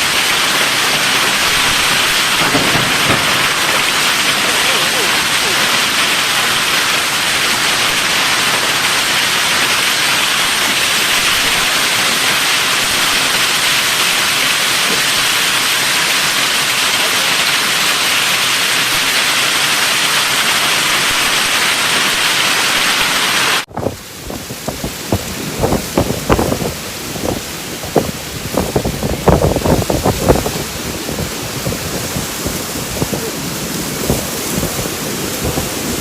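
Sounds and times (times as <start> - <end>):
heavy rain pouring: 0.0 - 36.0.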